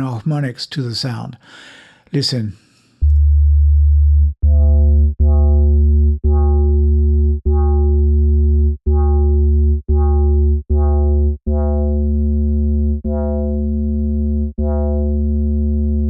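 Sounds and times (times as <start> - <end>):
deep synthesizer bass notes: 3.0 - 16.0.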